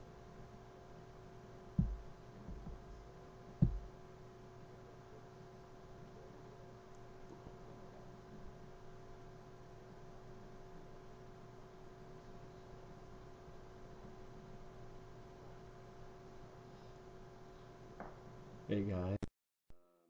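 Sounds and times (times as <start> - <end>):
faint electrical hum: 0.0 - 19.3.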